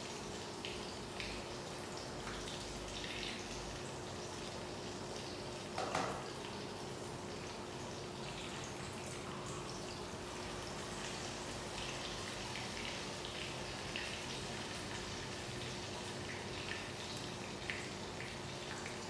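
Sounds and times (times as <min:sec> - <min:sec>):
pork sizzling in oil: 0:00.0 - 0:19.0.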